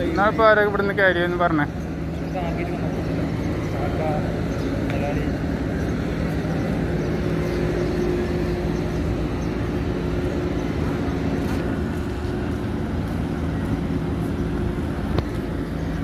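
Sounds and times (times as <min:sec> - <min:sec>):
low engine hum: 0:00.0 - 0:16.0
street traffic: 0:00.0 - 0:16.0.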